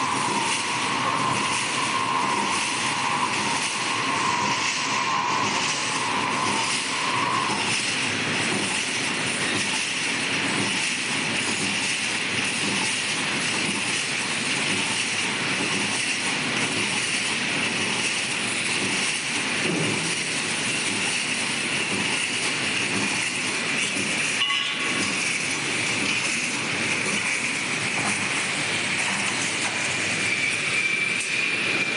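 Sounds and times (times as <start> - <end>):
welding machine running: 0.0 - 31.9.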